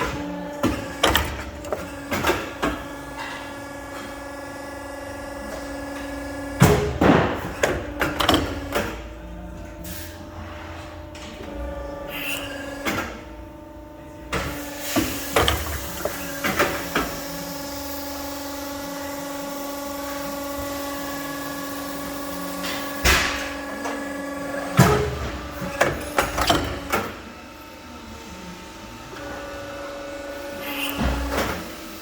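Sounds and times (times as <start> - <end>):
machine hum: 0.0 - 32.0.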